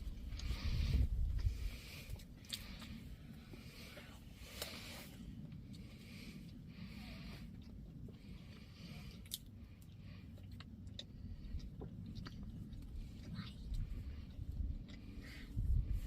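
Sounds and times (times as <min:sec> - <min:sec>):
chewing and crunching snack: 0:00.0 - 0:16.0
low steady rumble: 0:00.0 - 0:16.0.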